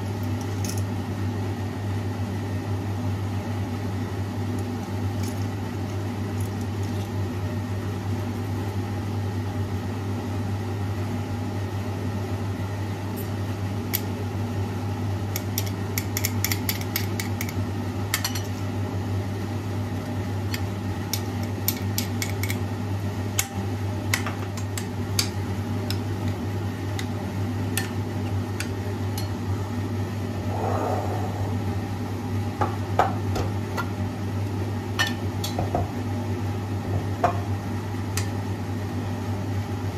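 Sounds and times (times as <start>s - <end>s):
electrical appliance hum: 0.0s - 39.9s.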